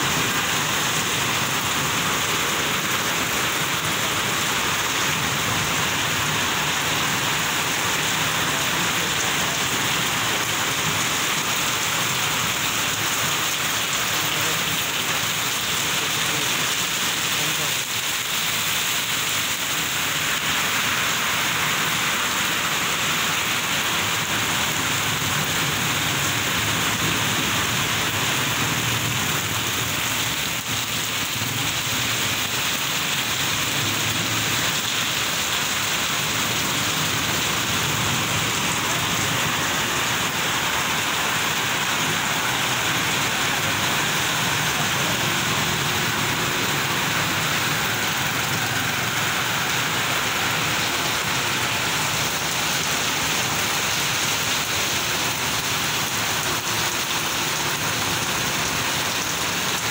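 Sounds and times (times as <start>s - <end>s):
torrential rain pouring into water: 0.0s - 59.9s.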